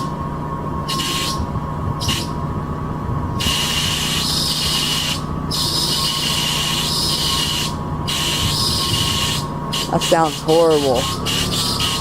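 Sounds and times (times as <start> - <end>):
car engine running: 0.0 - 12.0
power steering pump whining: 0.0 - 12.0
loud hissing squeal: 0.9 - 2.4, 3.4 - 12.0.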